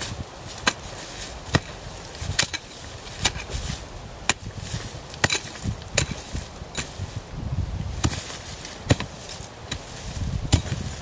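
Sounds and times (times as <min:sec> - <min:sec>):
pickax striking dirt: 0:00.0 - 0:07.2, 0:07.9 - 0:11.0.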